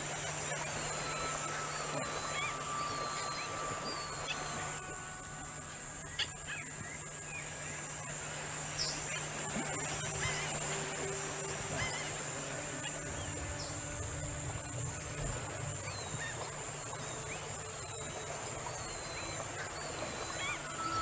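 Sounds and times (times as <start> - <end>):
high-pitched insect trill: 0.0 - 21.0
low hum: 0.0 - 21.0.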